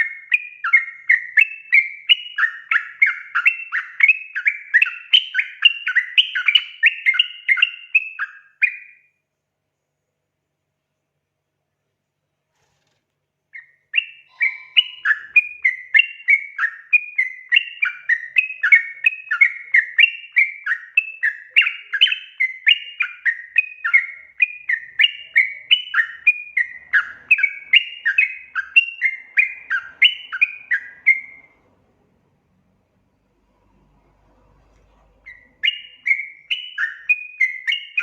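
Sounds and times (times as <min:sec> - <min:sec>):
bird chirping song: 0:00.0 - 0:38.0.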